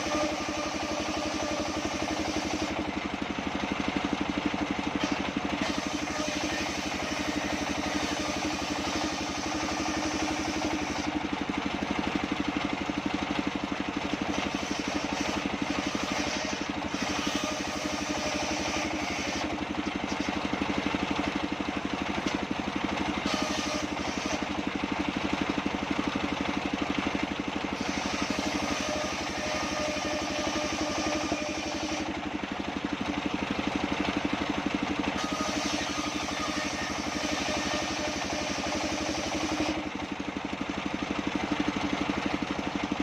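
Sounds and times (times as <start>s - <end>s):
band saw running: 0.0s - 43.0s.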